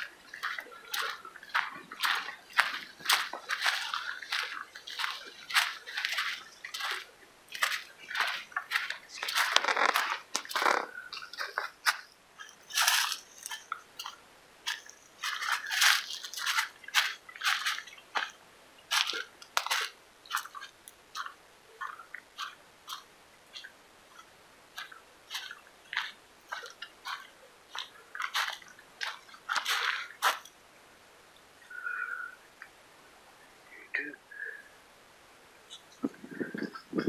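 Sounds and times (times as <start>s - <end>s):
footsteps crunching on leaves: 0.0s - 30.5s.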